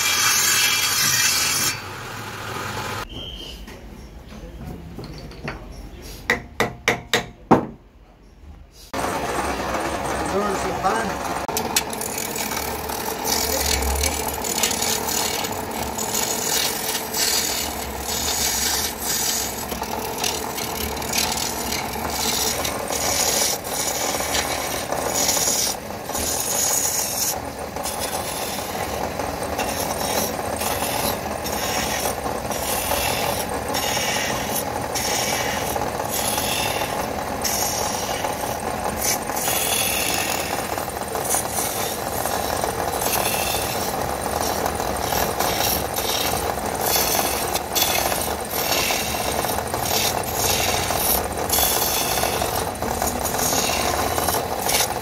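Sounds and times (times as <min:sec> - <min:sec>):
chisel scraping spinning wood: 0:00.0 - 0:03.1, 0:08.9 - 0:55.0
lathe hum: 0:08.9 - 0:55.0.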